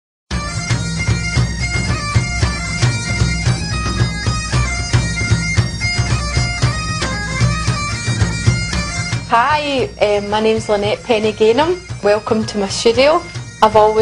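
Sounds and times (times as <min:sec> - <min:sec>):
bagpipe music: 0:00.3 - 0:14.0.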